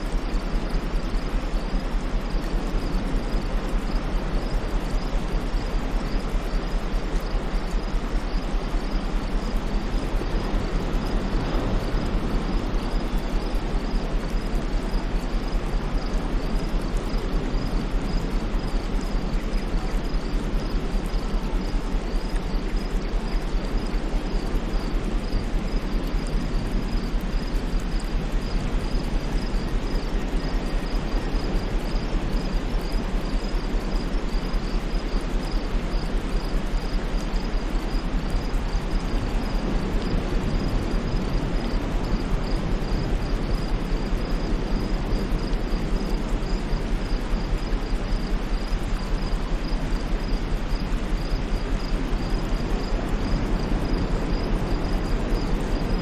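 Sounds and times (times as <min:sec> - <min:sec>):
insect chirping: 0:00.0 - 0:56.0
white noise hiss: 0:00.0 - 0:56.0.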